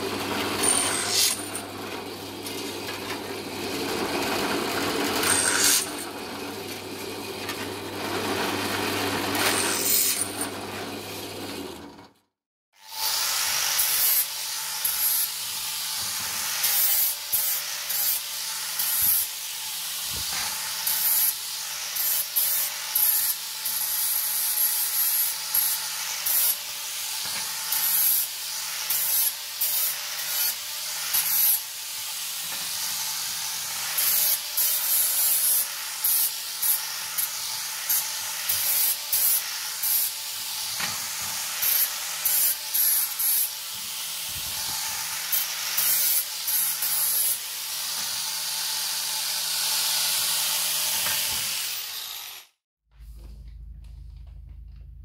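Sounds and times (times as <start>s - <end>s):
angle grinder grinding metal: 0.0s - 12.1s, 12.8s - 52.6s.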